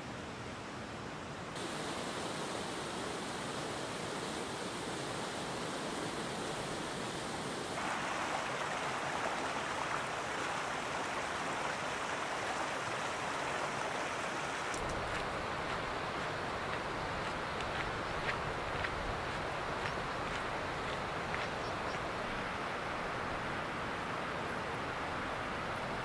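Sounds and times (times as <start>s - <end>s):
mountain stream rushing: 0.0s - 26.0s.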